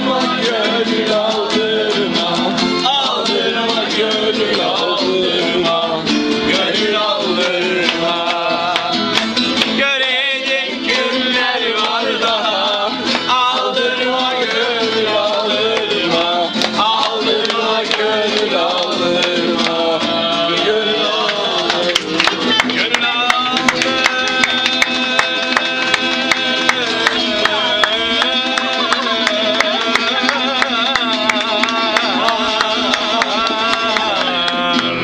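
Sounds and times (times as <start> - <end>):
acoustic guitar strummed: 0.0 - 35.0
saz strummed: 0.0 - 35.0
voices singing along: 0.0 - 35.0.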